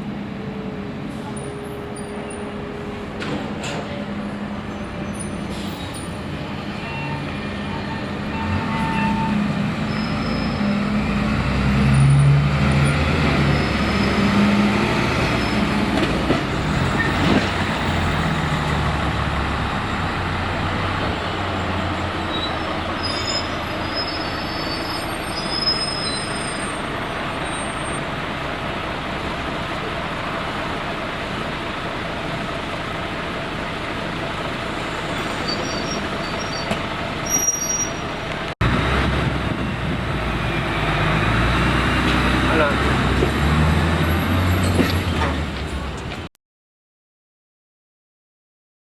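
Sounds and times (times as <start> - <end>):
diesel engine rumbling: 0.0 - 46.3.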